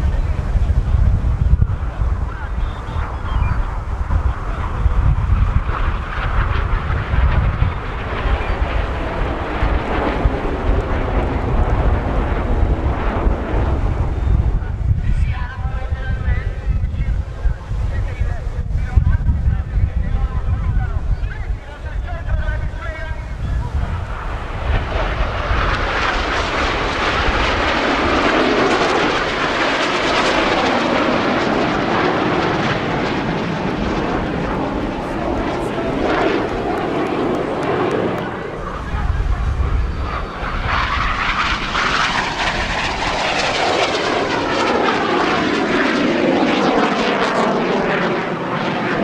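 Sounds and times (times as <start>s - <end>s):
steady rumbling noise: 0.0s - 45.8s
wind buffeting microphone: 0.0s - 48.0s
airplane flying past: 0.0s - 49.0s.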